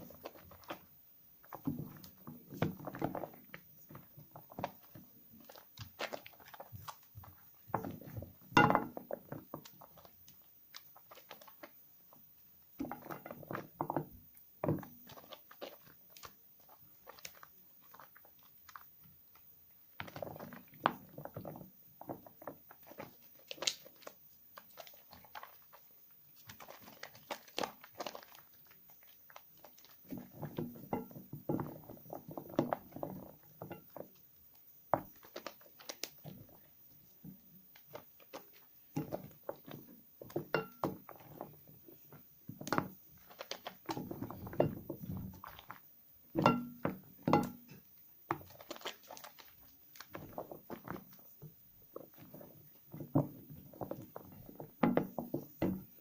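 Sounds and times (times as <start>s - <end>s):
soap crackling in wet hands: 0.0s - 56.0s.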